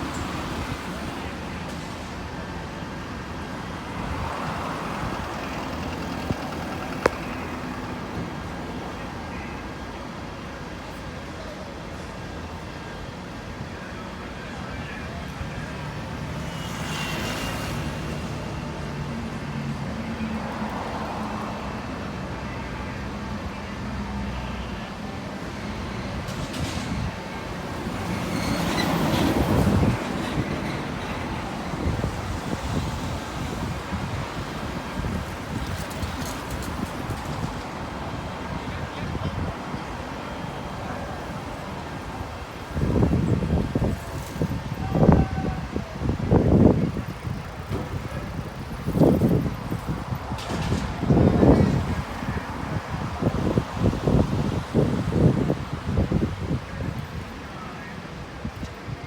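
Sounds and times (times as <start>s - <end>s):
vehicle engine rumble: 0.0s - 10.0s, 14.5s - 59.0s.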